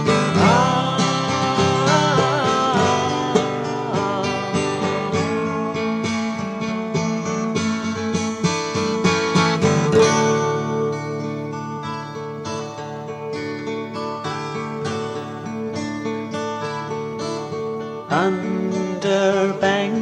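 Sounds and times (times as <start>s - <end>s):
bending lead guitar line: 0.0s - 20.0s
picked guitar notes: 0.0s - 20.0s.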